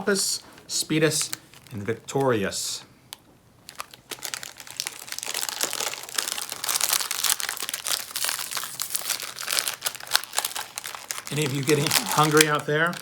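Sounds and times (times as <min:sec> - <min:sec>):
snack wrapper crinkling: 0:01.2 - 0:02.3, 0:03.6 - 0:13.0.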